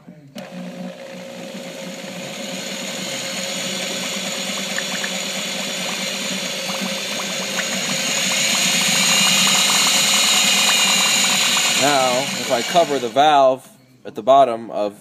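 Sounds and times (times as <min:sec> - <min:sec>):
oil pump whirring: 0:00.4 - 0:13.4.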